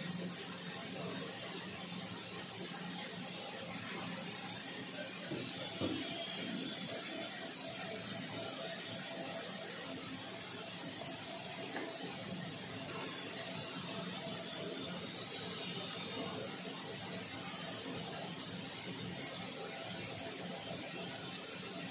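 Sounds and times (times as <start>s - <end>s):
air compressor running: 0.0s - 21.9s.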